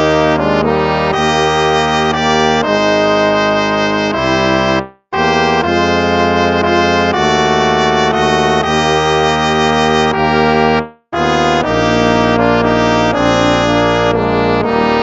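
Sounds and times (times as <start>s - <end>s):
instrumental hymn music: 0.0s - 15.0s.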